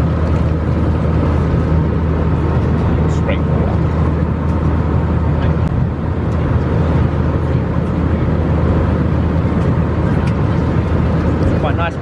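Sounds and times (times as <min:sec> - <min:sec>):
airplane cabin engine rush: 0:00.0 - 0:12.0.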